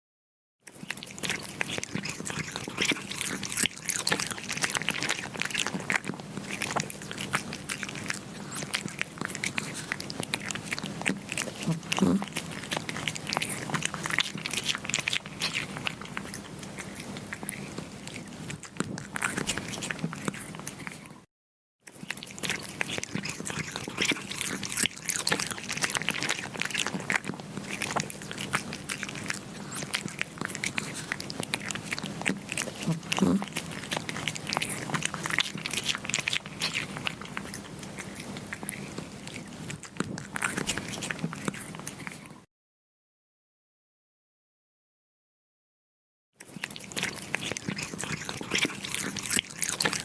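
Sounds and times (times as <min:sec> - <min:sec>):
kittens chewing meat: 0:00.6 - 0:42.5, 0:46.4 - 0:50.0.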